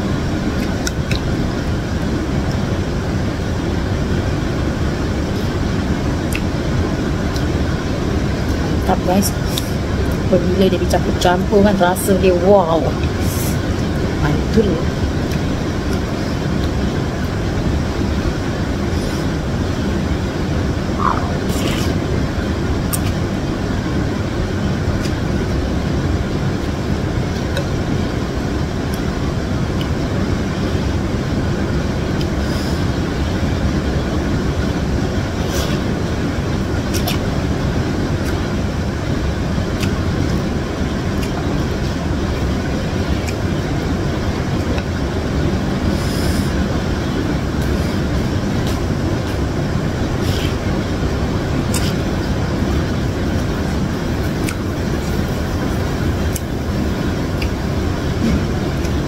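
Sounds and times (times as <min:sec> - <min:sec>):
loud steady low rumble: 0:00.0 - 0:59.0.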